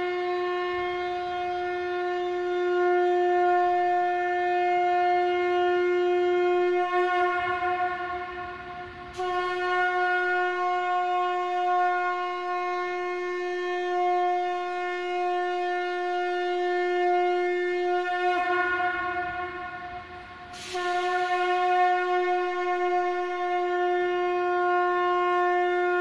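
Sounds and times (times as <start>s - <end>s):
conch shell blasts: 0.0s - 26.0s.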